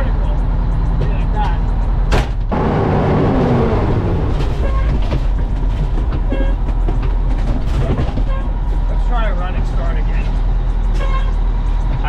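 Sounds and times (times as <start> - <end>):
fire truck engine rumbling: 0.0 - 12.0.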